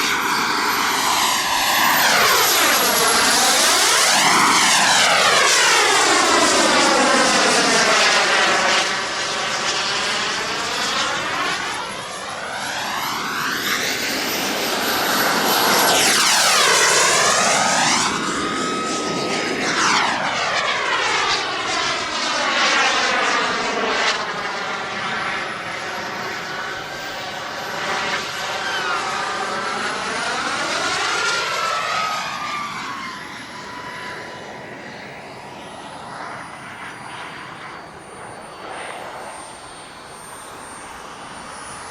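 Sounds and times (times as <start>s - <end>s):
model jet turbine whining: 0.0s - 41.9s.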